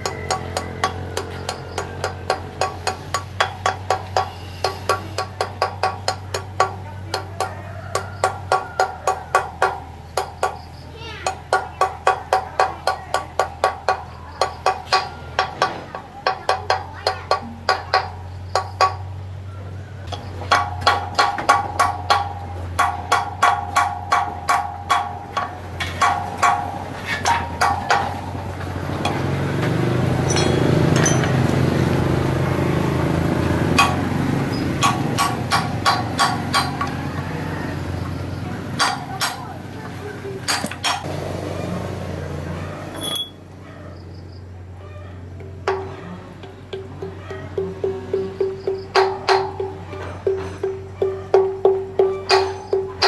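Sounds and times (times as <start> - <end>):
hammer striking steel drift: 0.0 - 19.2, 20.1 - 37.3, 38.7 - 39.6, 45.4 - 53.0.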